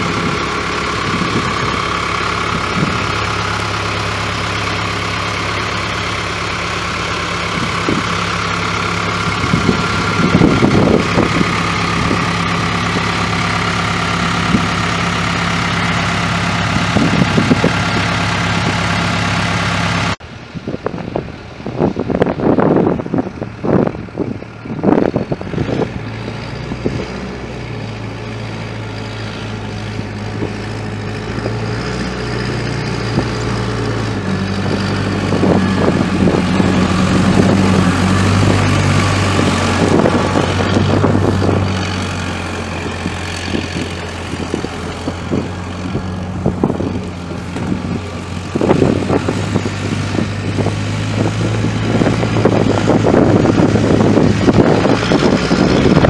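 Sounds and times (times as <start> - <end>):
wind buffeting microphone: 0.0 - 6.1, 7.1 - 19.2, 20.3 - 56.0
diesel engine driving past: 0.0 - 56.0.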